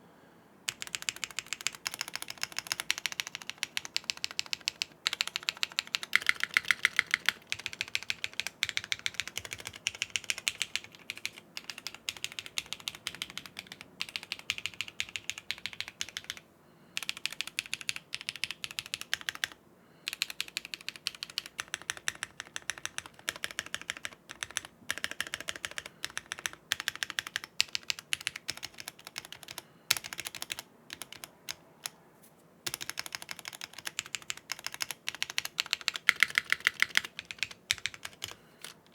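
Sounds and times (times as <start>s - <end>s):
fast typing on mechanical keyboard: 0.7s - 16.4s, 17.0s - 32.0s, 32.6s - 38.9s.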